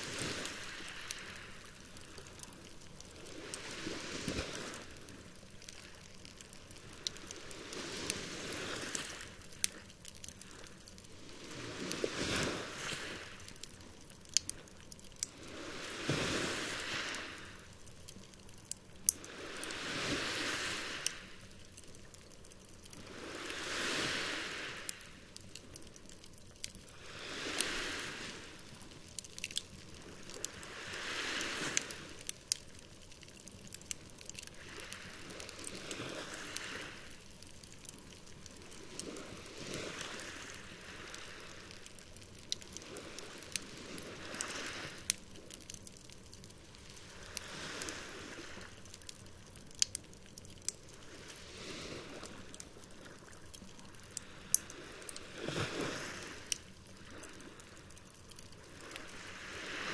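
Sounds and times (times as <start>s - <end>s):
small waves washing ashore: 0.0s - 14.6s, 15.2s - 59.9s
campfire crackling and popping: 0.0s - 59.3s.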